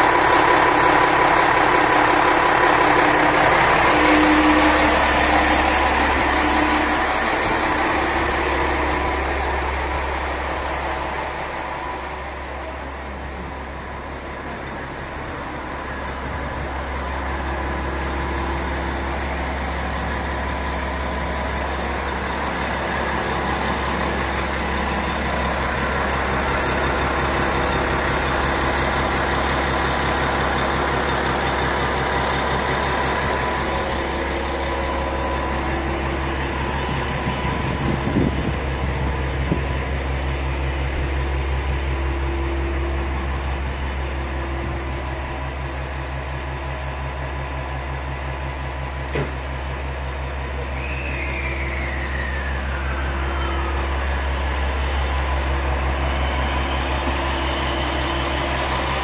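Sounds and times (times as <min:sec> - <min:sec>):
diesel railcar engine idling: 0:00.0 - 0:59.0.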